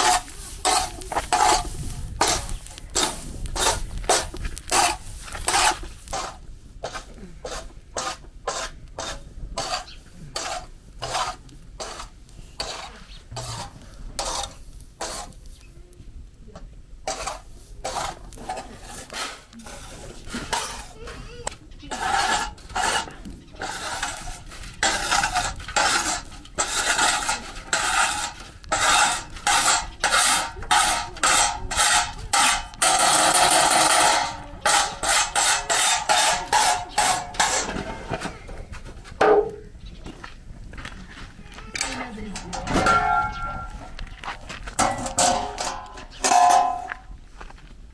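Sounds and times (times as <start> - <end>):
metal spatula scraping griddle: 0.0 - 15.4, 17.0 - 38.5, 41.8 - 44.0, 44.7 - 47.0.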